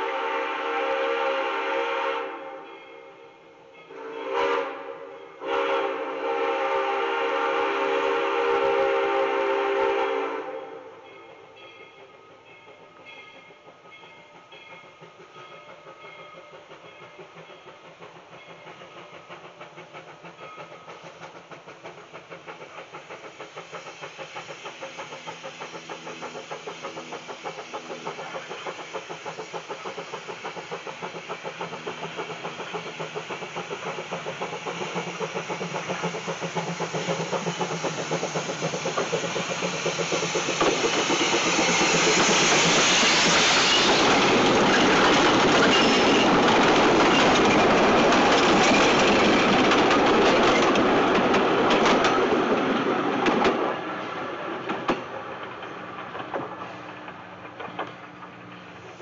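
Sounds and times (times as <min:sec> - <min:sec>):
rush of steam: 0:00.0 - 0:59.0
steam locomotive chuffing: 0:00.0 - 0:59.0
train cars rolling: 0:11.0 - 0:59.0.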